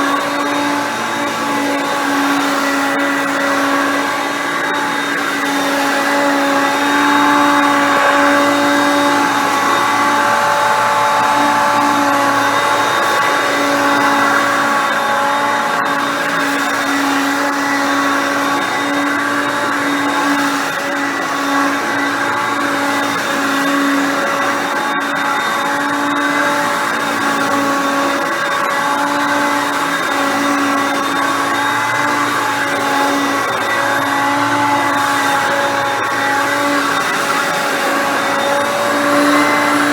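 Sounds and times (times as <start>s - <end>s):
upright vacuum cleaner whining: 0.0s - 39.9s.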